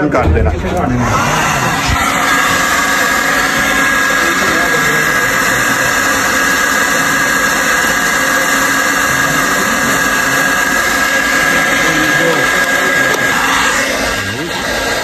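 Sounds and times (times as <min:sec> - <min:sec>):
hair dryer blowing air: 0:00.0 - 0:15.0.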